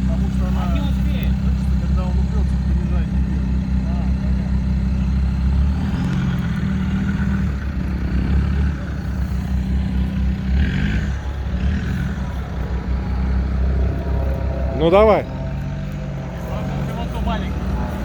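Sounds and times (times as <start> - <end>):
engine low rumble: 0.0 - 18.0.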